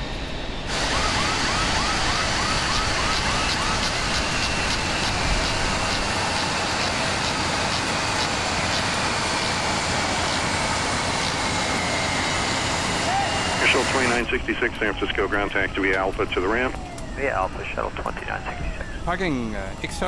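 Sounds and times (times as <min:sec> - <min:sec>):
jet aircraft roar: 0:00.0 - 0:20.0
warbling siren-like tone: 0:00.3 - 0:20.0.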